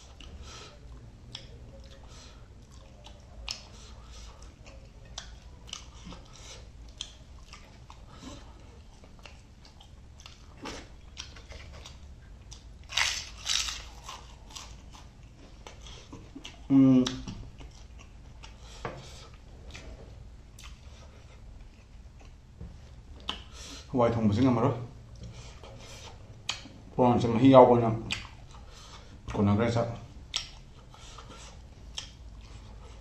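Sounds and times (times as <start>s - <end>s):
person chewing food: 0.0s - 23.9s, 25.0s - 26.9s, 28.0s - 29.4s, 30.1s - 33.0s.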